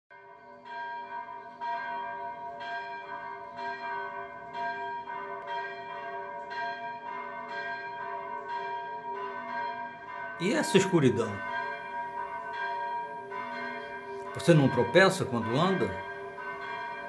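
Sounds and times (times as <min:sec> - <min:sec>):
church bells ringing: 0:00.1 - 0:17.0.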